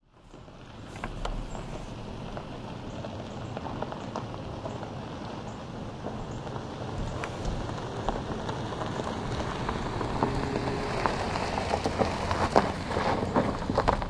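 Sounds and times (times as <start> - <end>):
tyres crunching over gravel: 0.0 - 14.0
small stones popping and crackling: 0.2 - 14.0.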